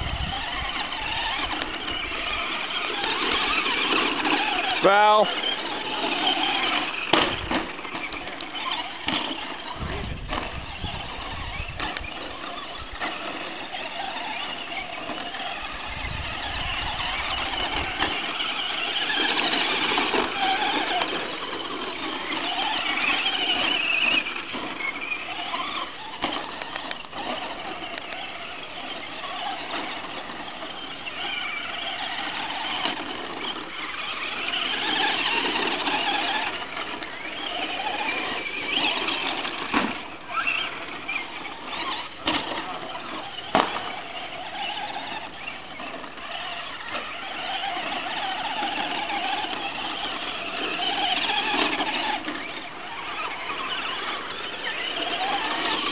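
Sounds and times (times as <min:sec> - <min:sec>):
electric motors whining: 0:00.0 - 0:55.9.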